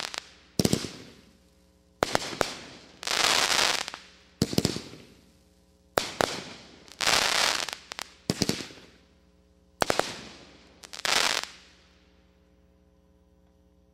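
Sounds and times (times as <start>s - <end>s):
crackling hiss of firework stars: 0.0s - 12.6s.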